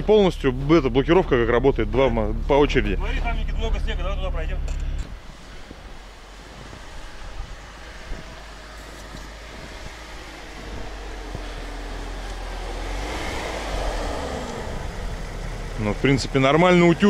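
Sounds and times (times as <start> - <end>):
car engine rumbling: 0.0 - 17.0
tyres on snow: 0.0 - 17.0.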